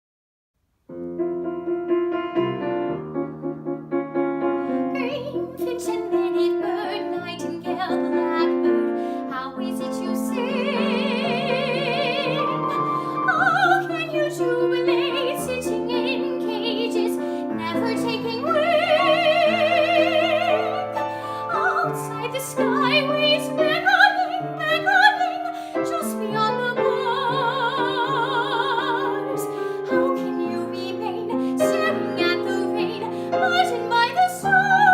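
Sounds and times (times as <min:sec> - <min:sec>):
piano accompaniment: 0:00.8 - 0:34.9
soprano singing with vibrato: 0:04.9 - 0:34.9.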